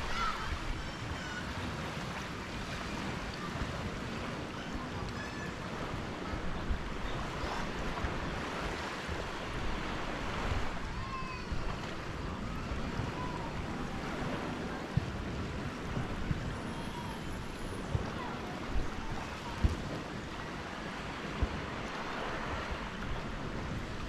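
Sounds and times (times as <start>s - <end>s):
small waves washing onto beach: 0.0s - 24.0s.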